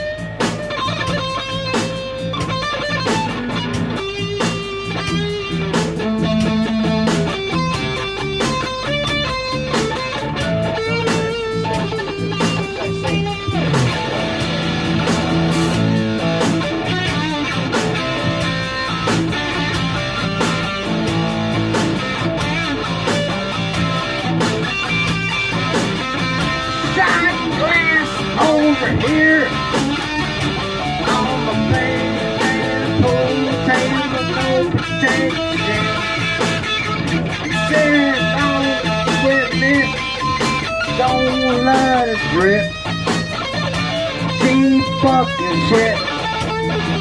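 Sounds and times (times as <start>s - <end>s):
electric guitar blues jam: 0.0s - 47.0s.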